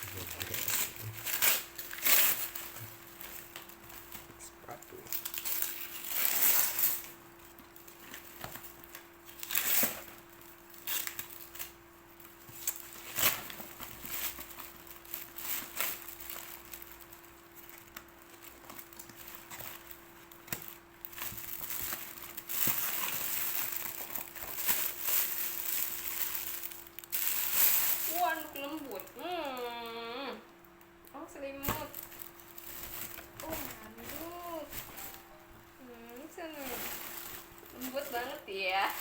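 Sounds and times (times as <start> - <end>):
gift wrapping crinkling: 0.0 - 29.9, 30.7 - 39.0
faint steady hum: 0.0 - 39.0.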